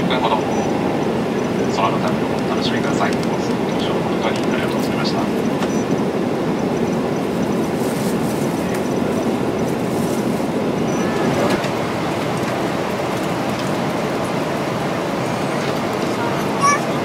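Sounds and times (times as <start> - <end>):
jet airliner cabin noise: 0.0 - 17.0.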